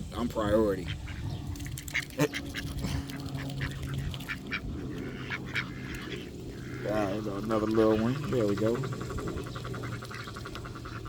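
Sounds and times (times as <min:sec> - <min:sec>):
steady low hum: 0:00.0 - 0:11.0
ducks quacking: 0:00.4 - 0:11.0.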